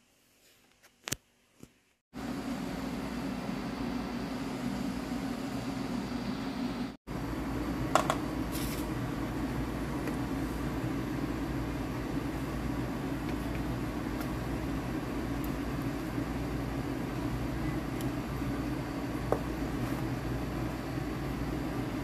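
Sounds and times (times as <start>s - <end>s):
steady mechanical hum: 2.2s - 22.0s.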